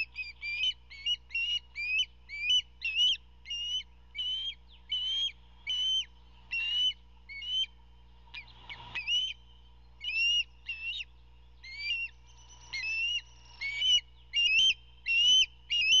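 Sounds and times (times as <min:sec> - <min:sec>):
osprey whistled chirps: 0:00.0 - 0:16.0.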